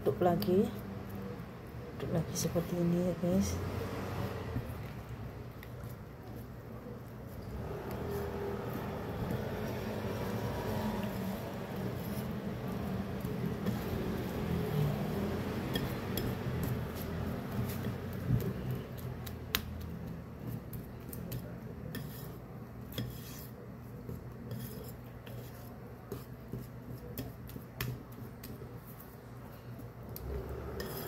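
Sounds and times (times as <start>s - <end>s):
whisk beating batter in a bowl: 5.5s - 31.0s.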